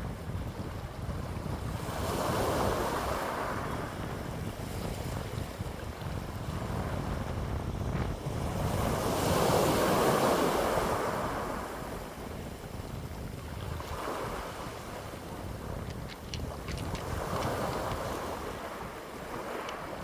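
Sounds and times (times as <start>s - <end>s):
wind blowing: 0.0s - 20.0s
wind buffeting microphone: 0.0s - 20.0s.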